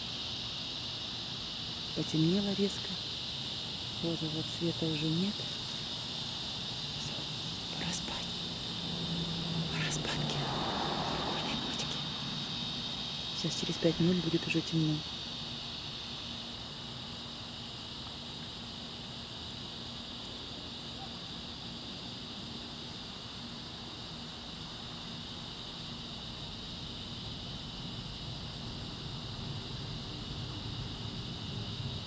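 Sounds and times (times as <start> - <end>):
low steady hum: 0.0 - 32.0
night insects chorus: 0.0 - 32.0.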